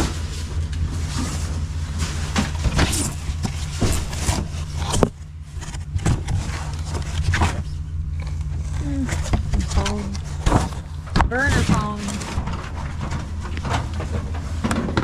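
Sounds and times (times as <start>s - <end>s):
steady low hum: 0.0s - 15.0s
items clicking and knocking: 2.2s - 15.0s.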